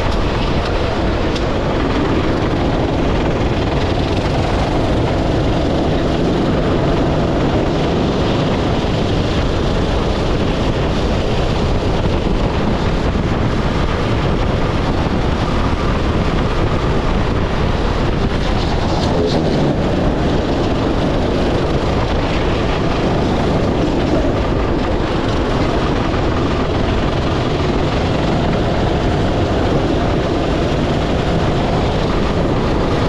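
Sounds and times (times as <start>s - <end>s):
go-kart engine: 0.0s - 33.0s
wind rushing over microphone: 0.0s - 33.0s.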